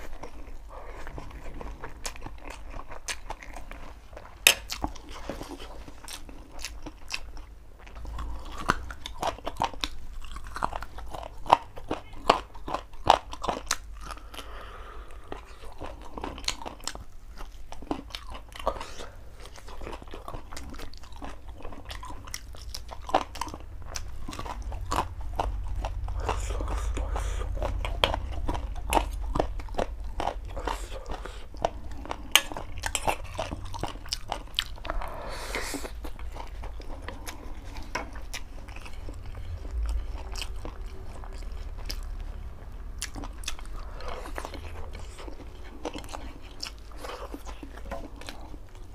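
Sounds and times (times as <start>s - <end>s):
chewing with crunchy bites: 0.0s - 48.9s.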